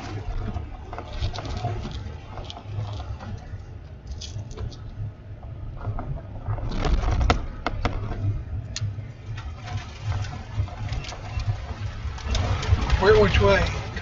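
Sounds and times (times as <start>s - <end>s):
storm wind buffeting a vehicle: 0.0s - 14.0s.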